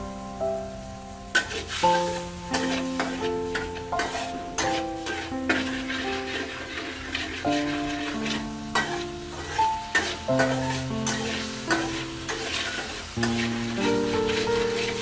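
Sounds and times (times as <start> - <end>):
background music with held notes: 0.0 - 15.0
garlic sizzling in oil: 0.0 - 15.0
metal spatula scraping a wok: 1.3 - 15.0.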